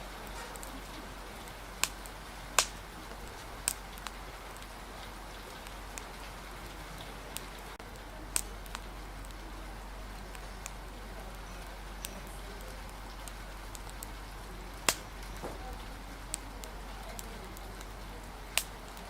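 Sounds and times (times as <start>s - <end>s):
rain hiss: 0.0s - 19.0s
wood fire crackling: 0.0s - 19.0s.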